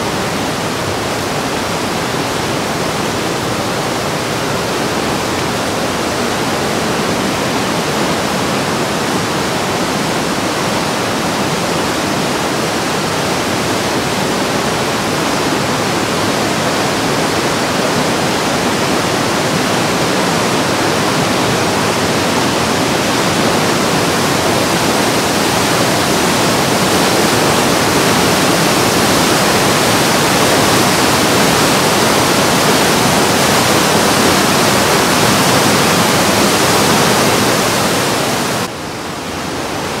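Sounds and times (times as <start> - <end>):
whitewater rushing through gorge: 0.0 - 40.0.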